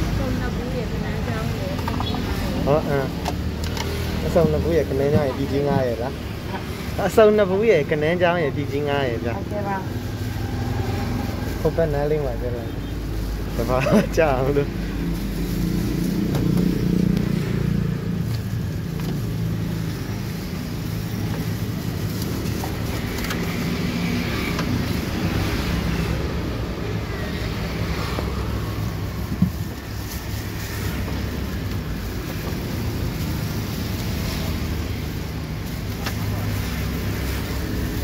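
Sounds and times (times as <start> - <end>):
engine rumble: 0.0 - 38.0.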